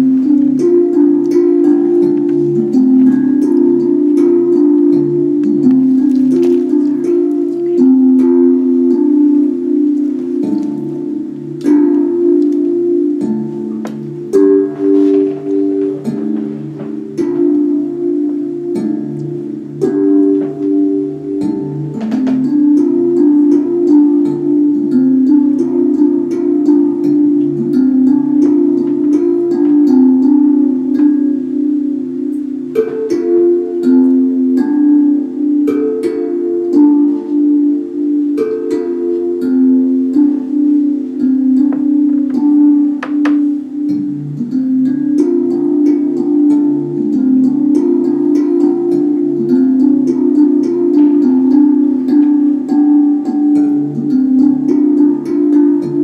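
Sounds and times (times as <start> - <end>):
steel tongue drum ringing notes: 0.0 - 56.0.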